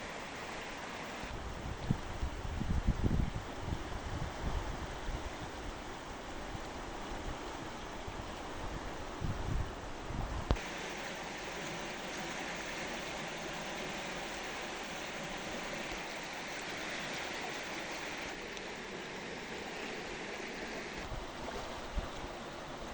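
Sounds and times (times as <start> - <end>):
river water rushing: 0.0 - 9.2, 9.8 - 22.9.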